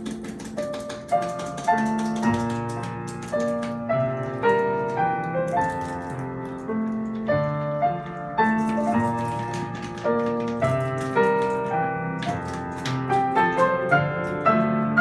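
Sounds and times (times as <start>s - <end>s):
slow piano playing: 0.0s - 15.0s.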